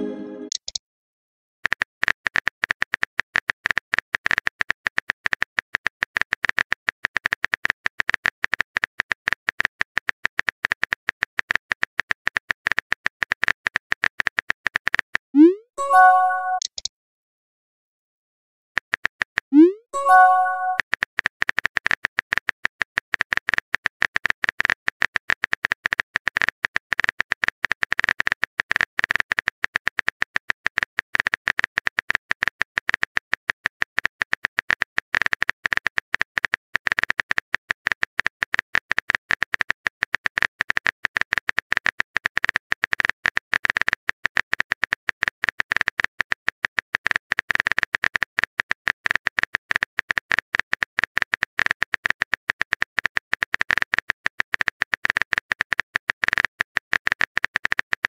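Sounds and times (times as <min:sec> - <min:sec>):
phone keyboard typing clicks: 0:00.5 - 0:00.8, 0:01.6 - 0:16.9, 0:18.8 - 0:58.0.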